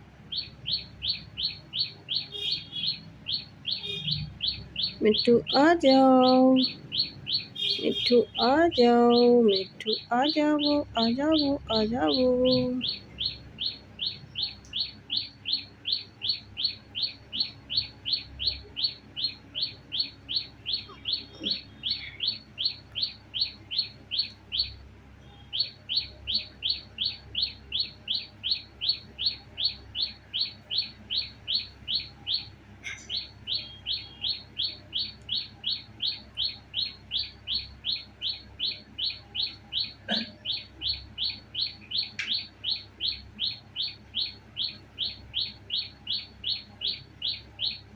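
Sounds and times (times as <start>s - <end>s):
bird chirping rhythmically: 0.0s - 47.9s.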